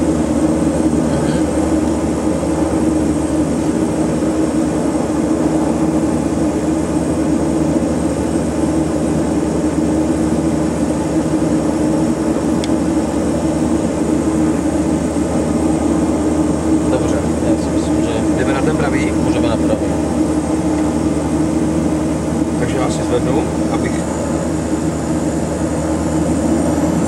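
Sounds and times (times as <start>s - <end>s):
turboprop engine idling: 0.0s - 27.0s.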